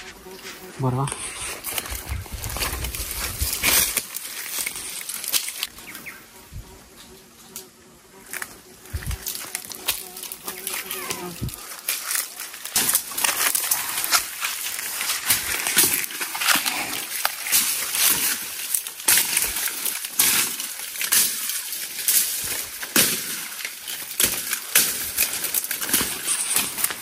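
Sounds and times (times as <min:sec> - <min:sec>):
footsteps crunching through leaves: 0:00.0 - 0:06.2, 0:08.2 - 0:27.0
branches rustling and cracking: 0:00.0 - 0:27.0.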